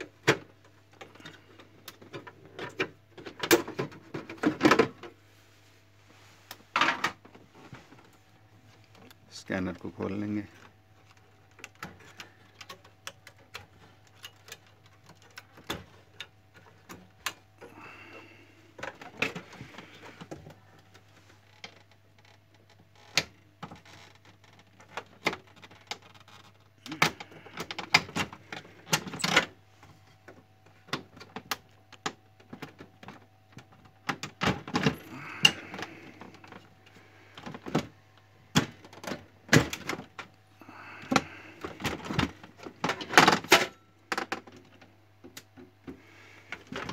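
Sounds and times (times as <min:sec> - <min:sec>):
plastic parts clicking and scraping: 0:00.0 - 0:05.2, 0:06.5 - 0:46.9.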